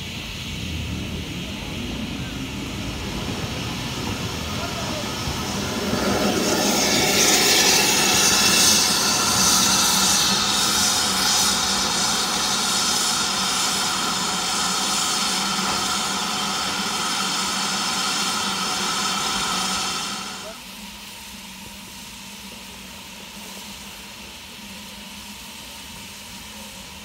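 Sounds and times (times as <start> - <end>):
steam locomotive venting steam: 0.0 - 27.0.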